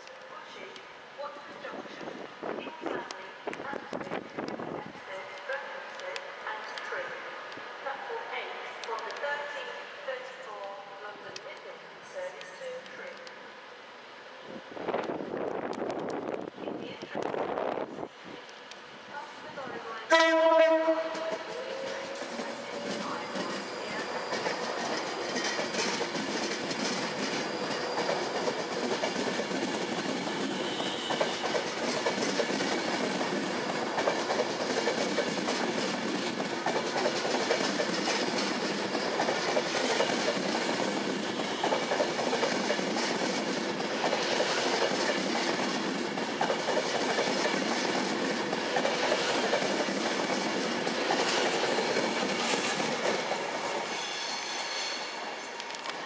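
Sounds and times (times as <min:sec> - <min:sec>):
train wheels on rail: 0:00.0 - 0:56.0.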